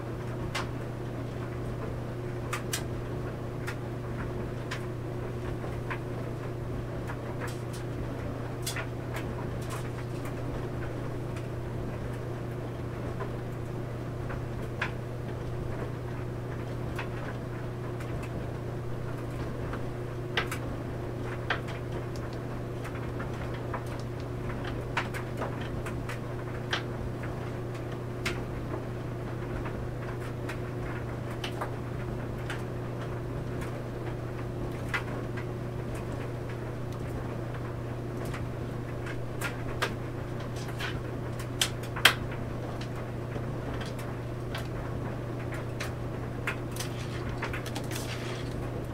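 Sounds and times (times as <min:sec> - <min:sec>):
clothes dryer humming: 0:00.0 - 0:48.9.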